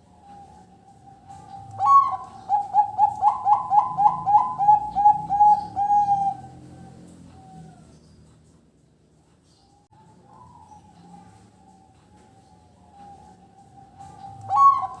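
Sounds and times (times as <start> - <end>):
dove cooing: 0.0 - 8.1, 10.0 - 15.0.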